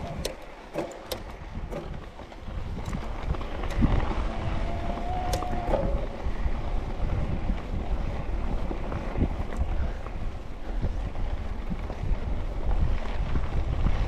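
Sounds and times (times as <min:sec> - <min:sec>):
wind buffeting microphone: 0:00.0 - 0:14.0
steady low rumble: 0:01.3 - 0:14.0.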